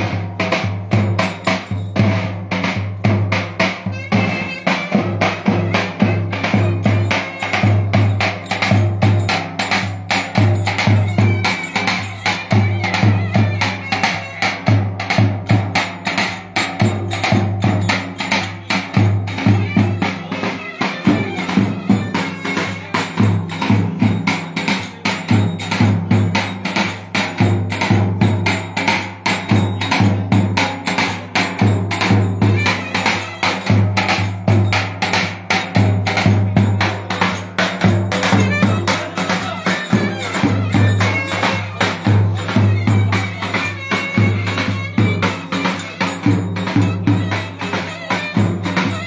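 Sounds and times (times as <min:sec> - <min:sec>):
wind instrument melody: 0:00.0 - 0:49.0.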